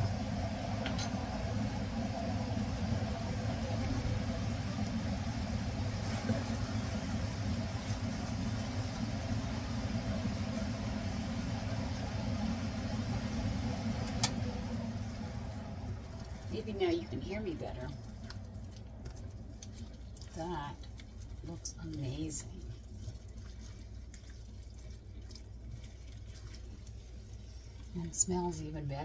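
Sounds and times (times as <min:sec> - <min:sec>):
exhaust fan humming: 0:00.0 - 0:29.0.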